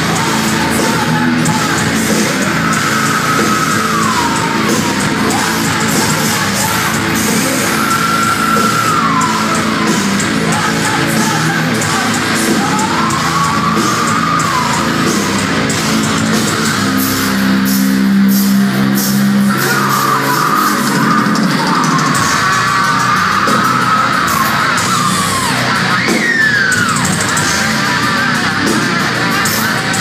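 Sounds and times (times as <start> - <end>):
live heavy metal band: 0.0 - 30.0.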